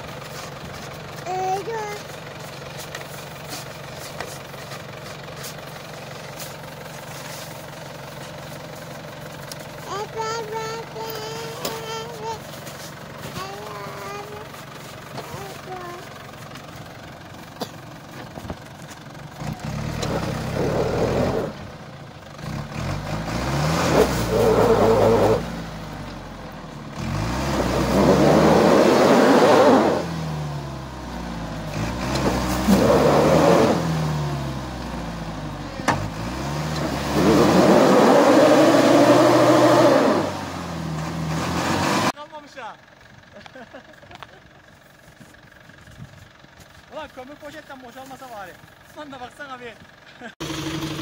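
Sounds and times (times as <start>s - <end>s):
vehicle engine revving: 0.0s - 42.2s, 50.4s - 51.0s.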